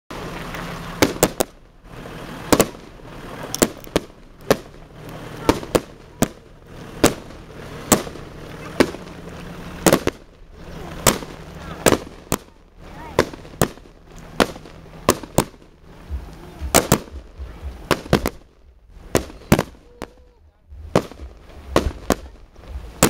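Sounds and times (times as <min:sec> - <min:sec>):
fireworks bangs: 0:00.1 - 0:23.0.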